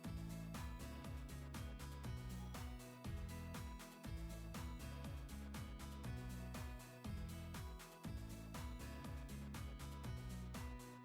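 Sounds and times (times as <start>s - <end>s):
music with sliding bass: 0.0s - 11.0s.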